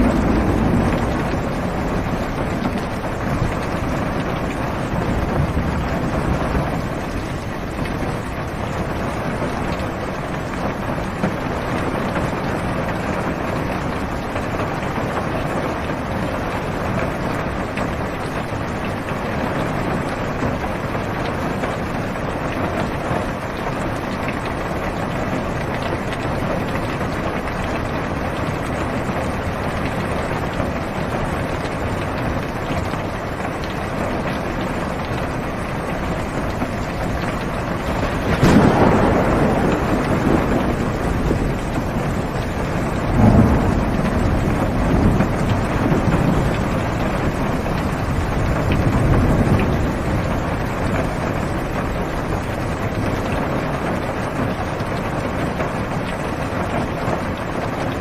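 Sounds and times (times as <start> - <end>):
heavy rain on car roof: 0.0 - 58.0
thunder cracking and rumbling: 0.0 - 58.0.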